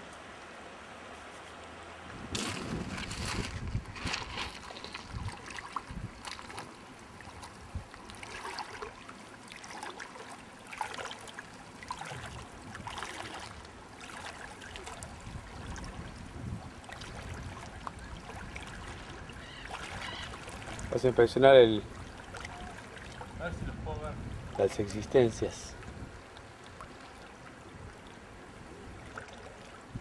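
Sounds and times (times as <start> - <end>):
small water splashes: 0.0 - 23.6, 24.3 - 30.0
river water flowing: 0.0 - 30.0.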